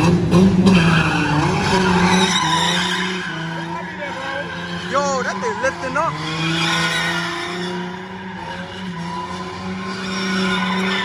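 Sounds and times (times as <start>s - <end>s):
car engine at high revs: 0.0s - 11.0s
tyres skidding: 0.1s - 11.0s.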